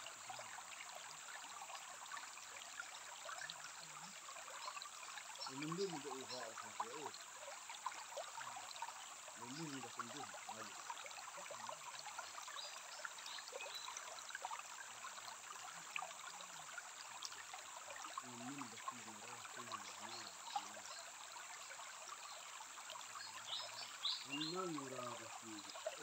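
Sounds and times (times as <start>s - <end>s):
stream trickling over stones: 0.0s - 26.0s.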